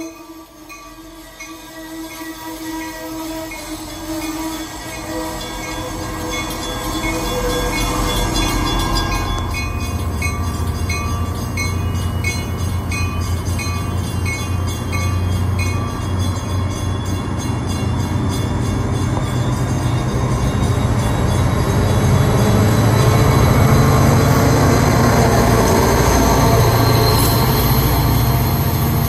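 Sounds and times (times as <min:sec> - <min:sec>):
bell ringing: 0:00.0 - 0:24.6
train coaches rumbling past: 0:00.0 - 0:29.0.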